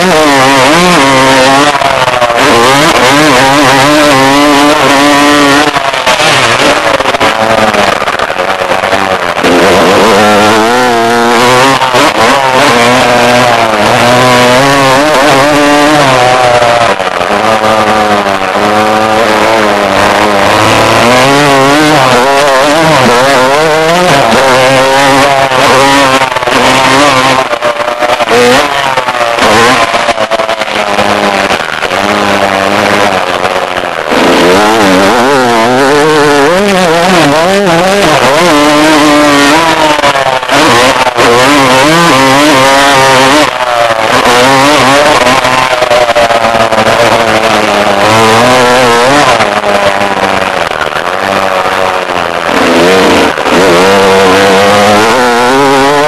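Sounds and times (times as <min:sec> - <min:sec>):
dirt bike engine revving: 0:00.0 - 0:56.0
loud rushing noise: 0:00.0 - 0:56.0.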